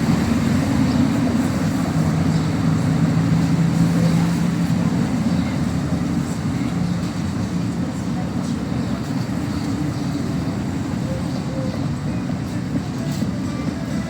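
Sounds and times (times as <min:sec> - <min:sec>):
held engine hum: 0:00.0 - 0:14.0
vehicle engine rumble: 0:00.0 - 0:14.0.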